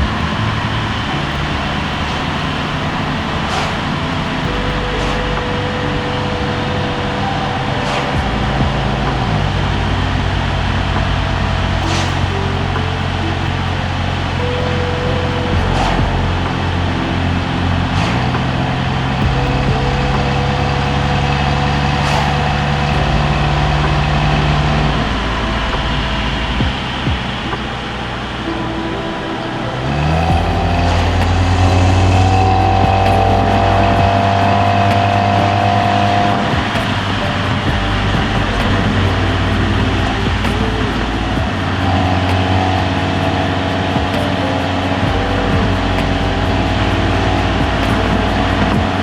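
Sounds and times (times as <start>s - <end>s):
car engine drone: 0.0s - 49.0s
road noise: 0.0s - 49.0s.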